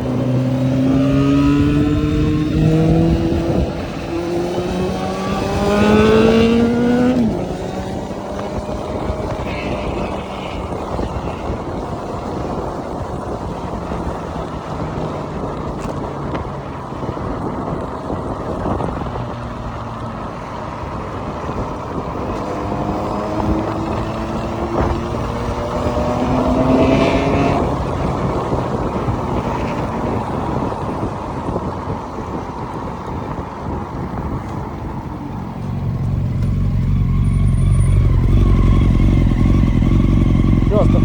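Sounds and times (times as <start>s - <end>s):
vehicle engine accelerating: 0.0s - 41.0s
wind on microphone: 0.0s - 41.0s.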